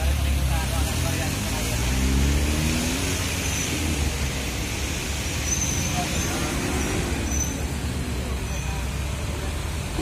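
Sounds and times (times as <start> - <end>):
diesel truck engines rumbling: 0.0 - 10.0.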